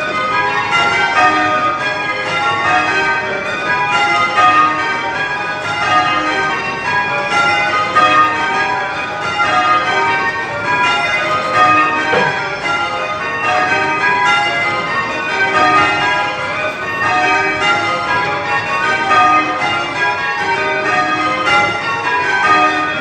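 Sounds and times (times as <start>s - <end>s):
church bells change ringing: 0.0s - 23.0s.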